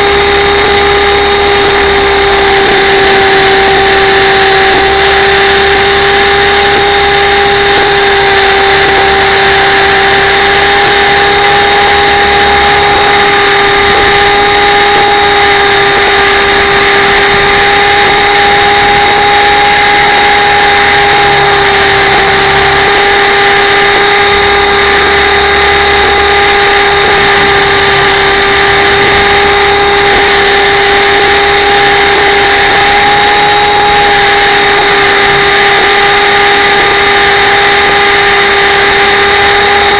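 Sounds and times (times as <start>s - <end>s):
helicopter rotors whining: 0.0s - 39.9s.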